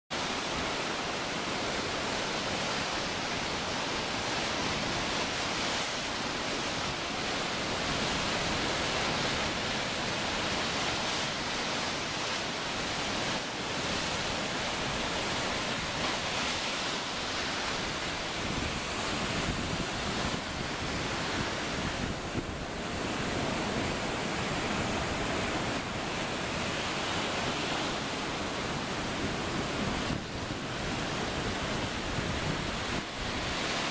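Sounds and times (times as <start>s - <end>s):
ocean surf breaking: 0.1s - 33.9s
wind buffeting microphone: 1.4s - 33.9s.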